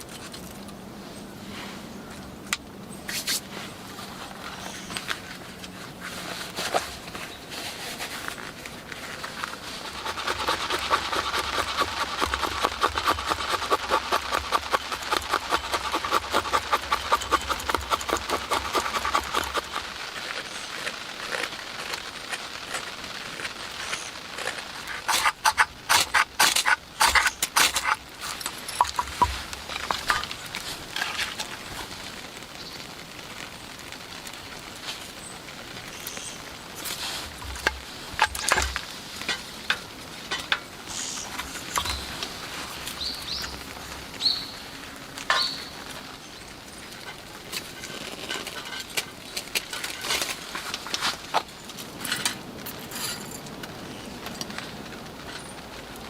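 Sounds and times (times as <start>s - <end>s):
light rain pattering: 0.0s - 56.0s.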